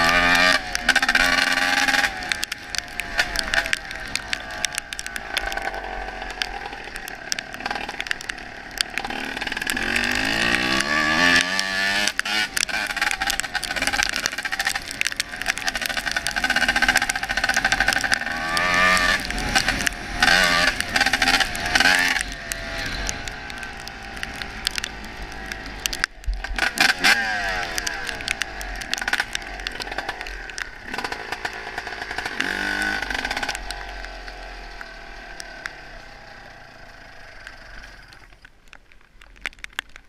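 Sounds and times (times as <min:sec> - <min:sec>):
dirt bike engine revving: 0:00.0 - 0:02.4, 0:05.2 - 0:25.2, 0:26.4 - 0:30.2, 0:30.8 - 0:38.1.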